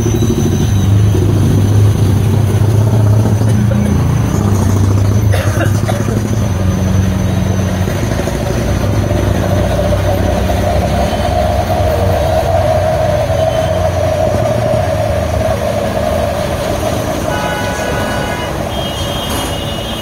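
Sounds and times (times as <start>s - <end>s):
heavy vehicle engine humming: 0.0s - 20.0s.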